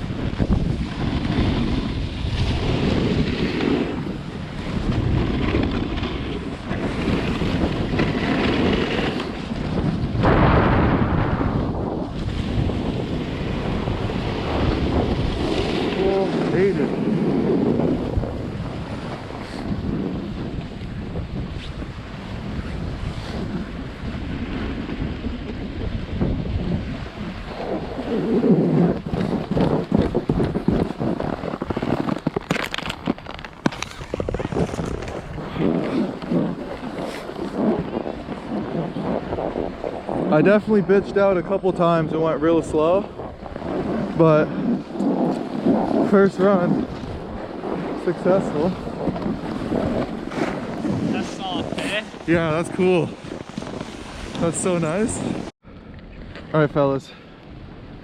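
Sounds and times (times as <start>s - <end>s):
snowboard scraping over snow: 0.0s - 55.5s
wind buffeting microphone: 0.0s - 58.0s.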